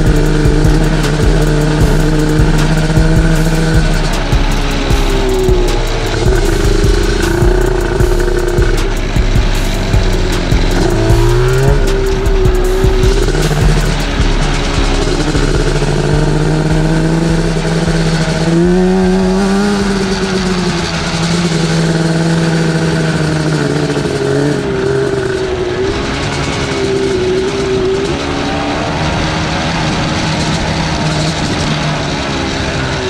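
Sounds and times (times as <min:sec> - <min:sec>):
quad two-stroke engine running: 0:00.0 - 0:33.0.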